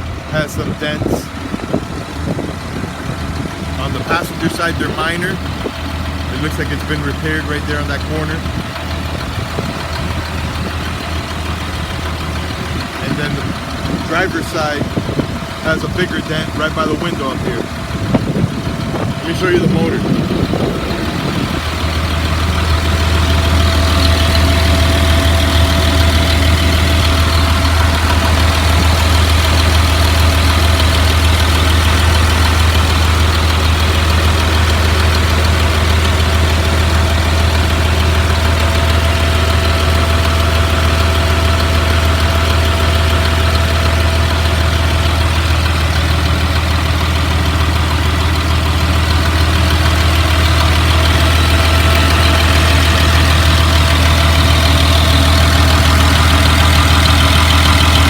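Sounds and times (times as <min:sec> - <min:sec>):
bus engine idling: 0:00.0 - 0:58.0.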